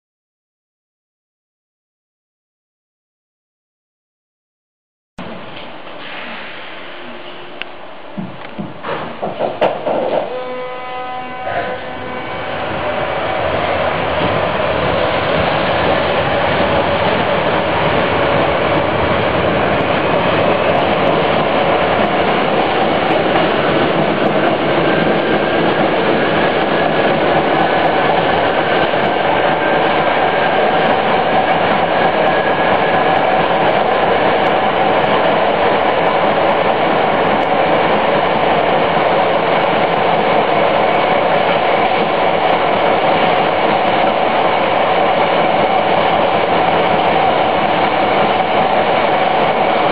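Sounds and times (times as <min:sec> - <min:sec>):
subway car wheels rumbling on rail: 0:05.2 - 0:49.9.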